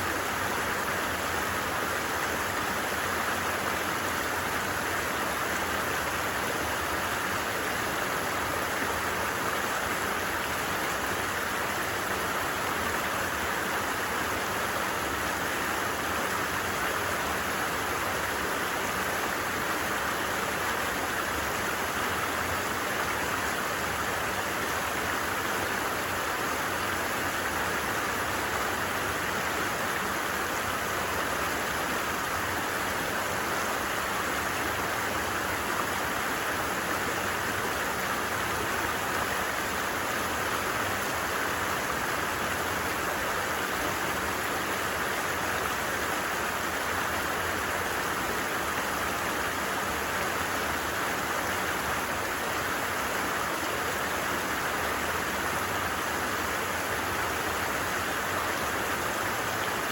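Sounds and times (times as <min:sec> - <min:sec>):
creek water babbling: 0:00.0 - 0:59.9.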